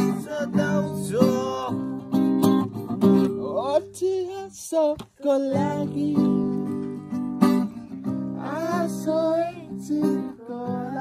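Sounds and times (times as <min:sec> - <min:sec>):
person singing: 0:00.0 - 0:02.5, 0:03.2 - 0:07.1, 0:08.3 - 0:11.0
acoustic guitar strumming: 0:00.0 - 0:11.0.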